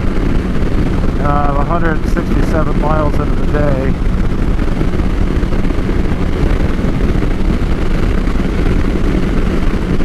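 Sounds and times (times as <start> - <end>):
motorcycle engine drone: 0.0 - 10.0
wind and road rush: 0.0 - 10.0.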